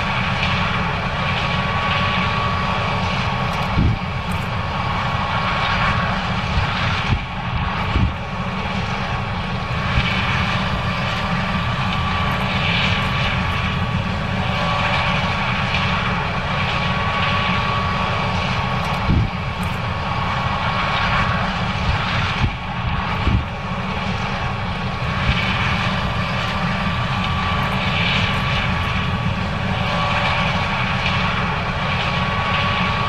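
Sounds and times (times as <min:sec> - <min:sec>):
combine harvester engine drone: 0:00.0 - 0:33.0
thin machinery whine: 0:00.0 - 0:33.0.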